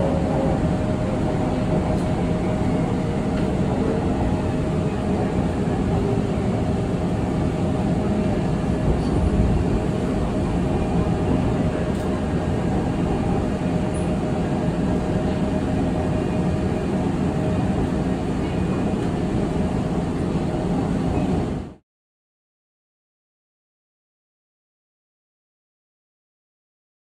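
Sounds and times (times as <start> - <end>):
wheels rumbling on rails: 0.0 - 21.8.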